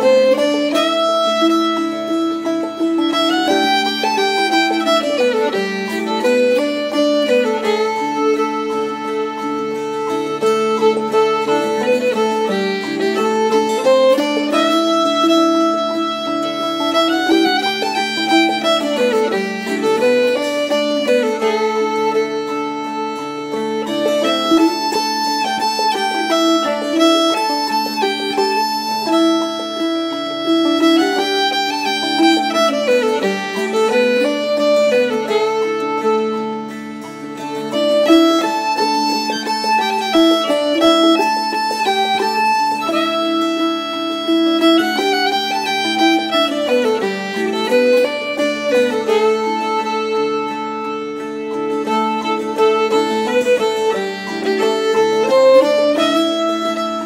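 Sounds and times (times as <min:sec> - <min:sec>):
instrumental background music: 0:00.0 - 0:57.0.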